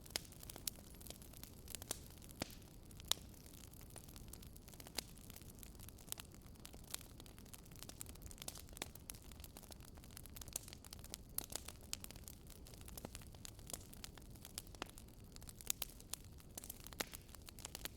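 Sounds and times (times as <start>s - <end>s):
burning wood popping: 0.0s - 17.9s.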